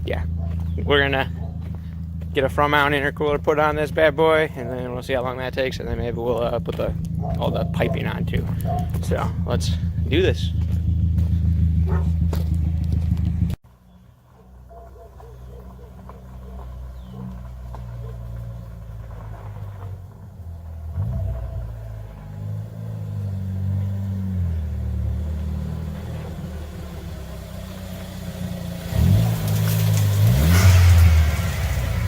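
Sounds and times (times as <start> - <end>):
car engine revving: 0.0 - 13.6, 15.5 - 32.0.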